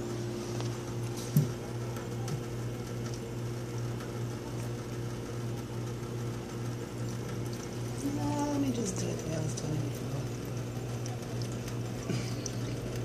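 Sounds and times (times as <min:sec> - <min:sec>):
low electrical hum: 0:00.0 - 0:13.0
tap water running into sink: 0:00.6 - 0:03.2, 0:04.0 - 0:13.0.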